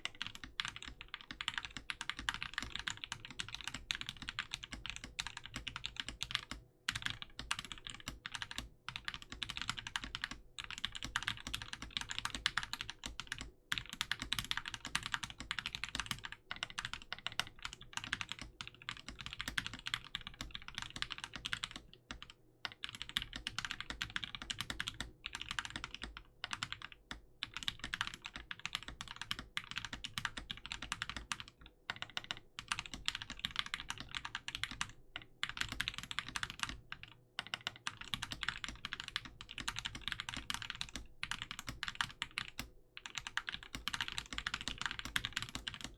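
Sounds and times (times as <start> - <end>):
typing on mechanical keyboard: 0.0 - 45.9.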